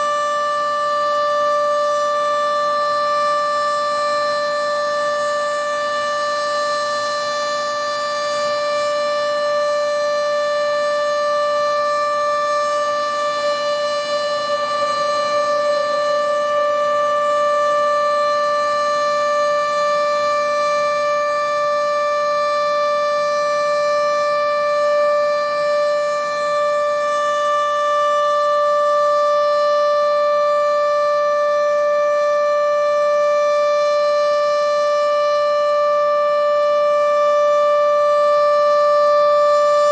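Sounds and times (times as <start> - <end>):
storm warning siren steady tone: 0.0 - 39.9.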